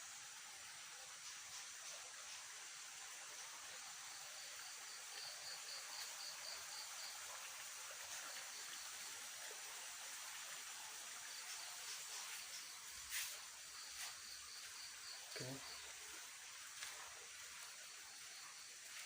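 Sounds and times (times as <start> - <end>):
insect chirping: 0.0 - 19.0
steady hiss: 0.0 - 19.0.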